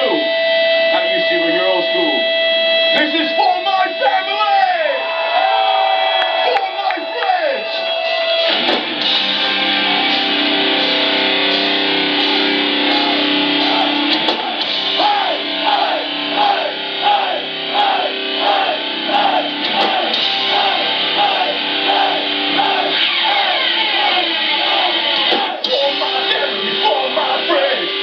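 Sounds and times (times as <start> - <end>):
distorted electric guitar: 0.0 - 28.0
punk band playing live: 0.0 - 28.0.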